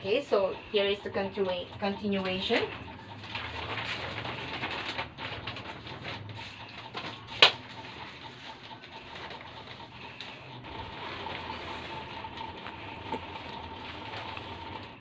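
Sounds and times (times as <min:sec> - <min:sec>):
paper sheets rustling: 0:02.2 - 0:15.0.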